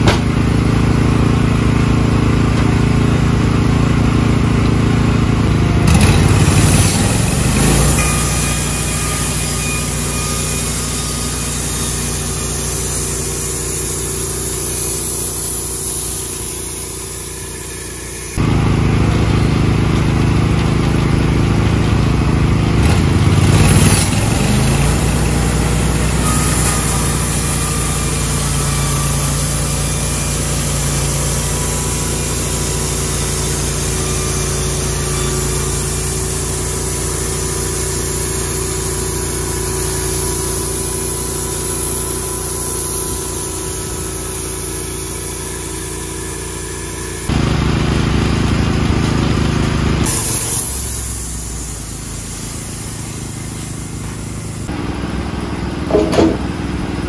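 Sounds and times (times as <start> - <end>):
band sawmill cutting log: 0.0 - 55.0, 55.8 - 57.0.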